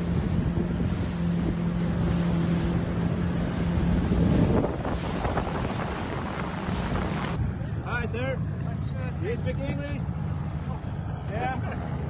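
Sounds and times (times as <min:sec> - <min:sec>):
boat engine hum: 0:00.0 - 0:12.0
sea water: 0:00.0 - 0:12.0
wind buffeting microphone: 0:00.0 - 0:12.0.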